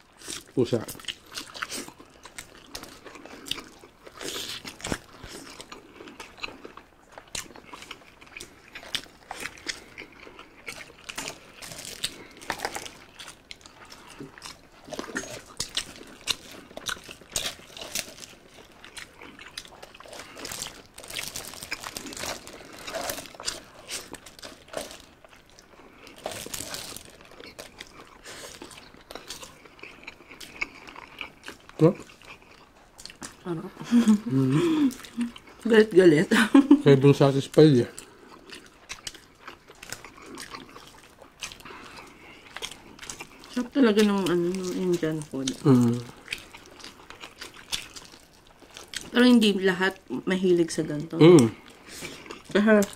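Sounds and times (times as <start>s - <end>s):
people chewing food: 0.0s - 52.9s.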